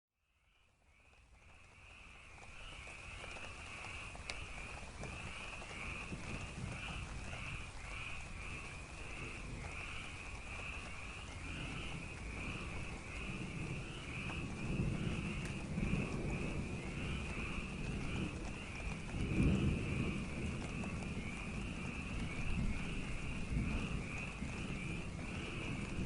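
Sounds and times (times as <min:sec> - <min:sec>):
frogs calling: 0:00.4 - 0:26.0
steady rain: 0:00.4 - 0:26.0.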